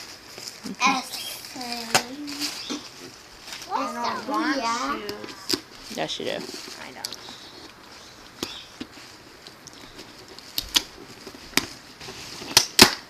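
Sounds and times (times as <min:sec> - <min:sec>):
wrapping paper crackling: 0:00.0 - 0:13.0.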